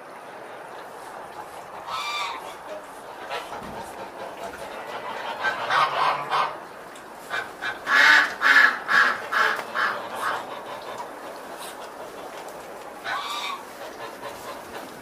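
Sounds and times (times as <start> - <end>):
chickens calling: 0.3 - 15.0.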